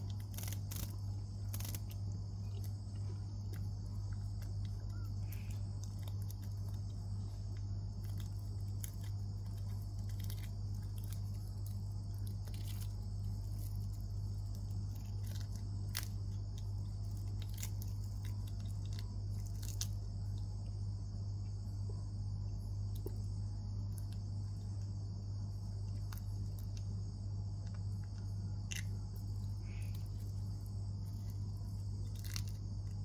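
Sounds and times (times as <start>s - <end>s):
insect shell crunching: 0.0s - 21.2s, 22.8s - 33.0s
high-pitched insect drone: 0.0s - 33.0s
steady low hum: 0.0s - 33.0s.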